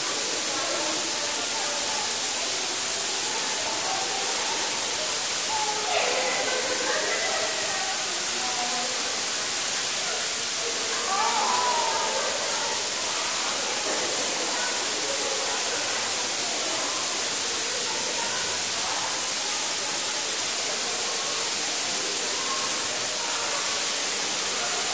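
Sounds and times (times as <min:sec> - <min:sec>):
faint distant voices: 0:00.0 - 0:24.9
steady hiss: 0:00.0 - 0:24.9.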